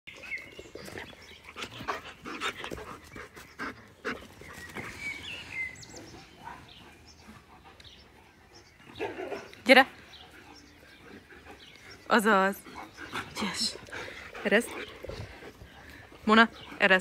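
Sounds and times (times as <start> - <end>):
dogs panting: 0.1 - 17.0.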